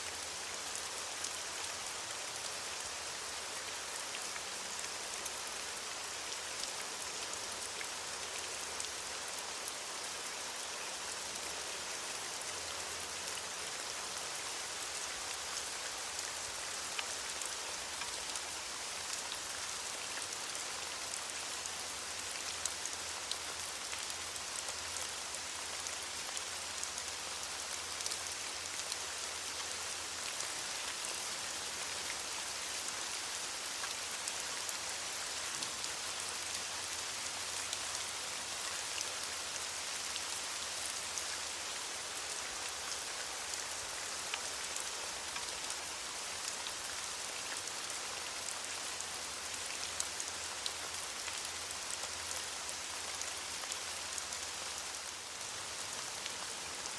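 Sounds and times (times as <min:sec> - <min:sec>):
rain falling on leaves: 0:00.0 - 0:56.9.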